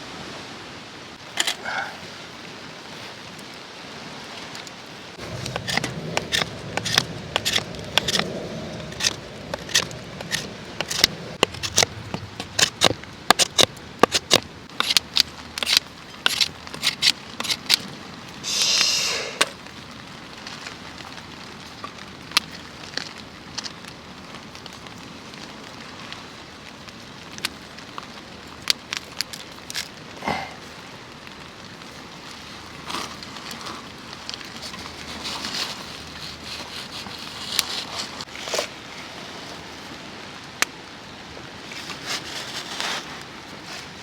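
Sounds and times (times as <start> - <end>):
light rain hissing: 0.0 - 12.4, 13.0 - 44.0
campfire crackling and popping: 4.5 - 38.7, 40.4 - 42.0.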